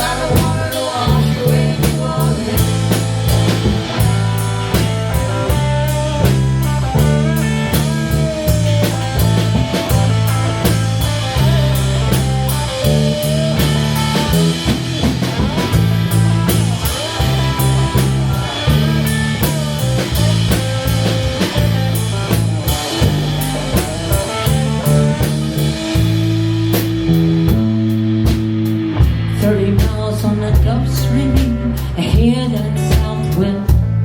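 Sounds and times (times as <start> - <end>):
bass guitar: 0.0 - 34.0
drum kit playing: 0.0 - 34.0
electric guitar: 0.0 - 34.0.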